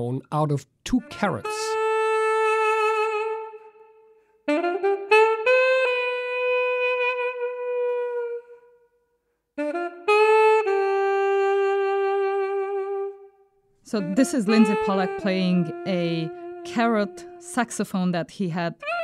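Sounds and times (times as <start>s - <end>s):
carrot saxophone notes: 1.0s - 8.9s, 9.6s - 19.0s.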